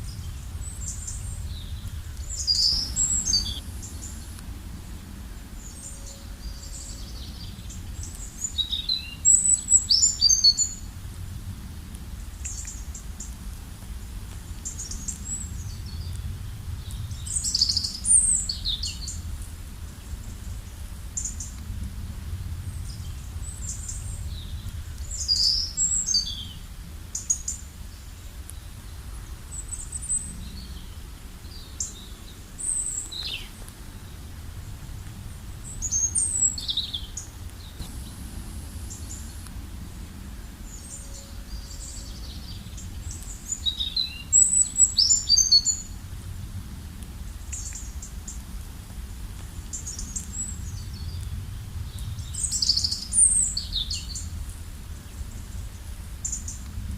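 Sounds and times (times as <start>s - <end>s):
songbirds chirping: 0.0s - 56.9s
steady low rumble: 0.0s - 56.9s.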